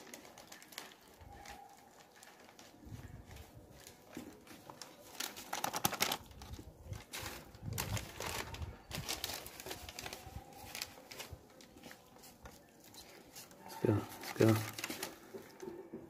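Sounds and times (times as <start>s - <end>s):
plastic bottle crinkling: 0.0s - 15.8s.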